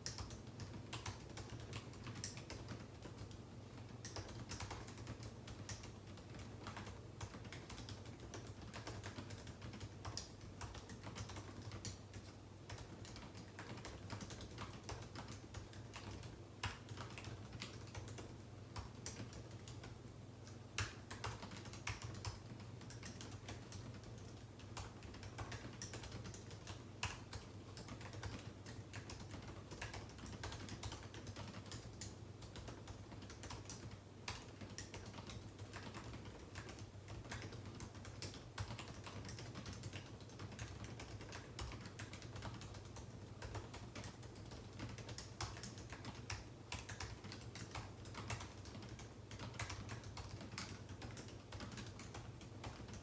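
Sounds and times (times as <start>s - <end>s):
keyboard typing: 0.0s - 53.0s.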